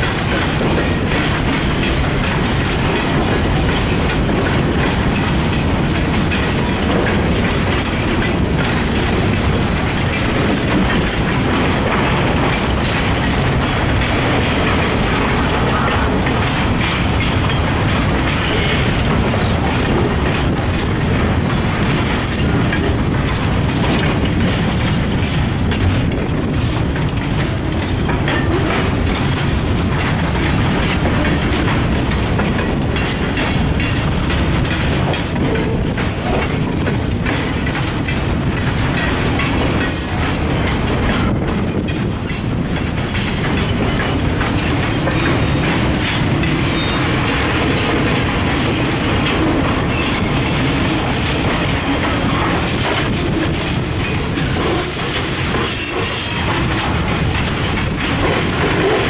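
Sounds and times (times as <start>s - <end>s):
freight train rumble: 0.0s - 59.0s
wheels clacking over rail joints: 0.0s - 59.0s.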